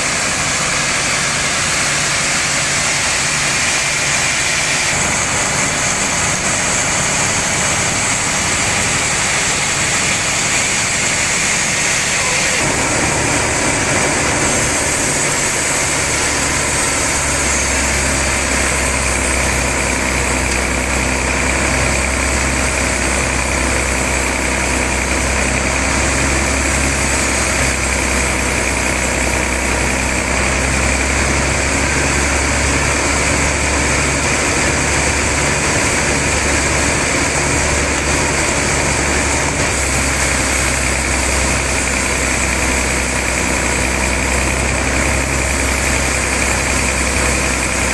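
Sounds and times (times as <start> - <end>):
saw machinery humming: 0.0 - 47.9.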